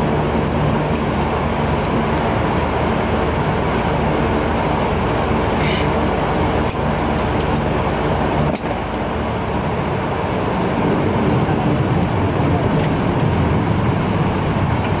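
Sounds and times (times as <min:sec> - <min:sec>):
turboprop engine drone: 0:00.0 - 0:15.0.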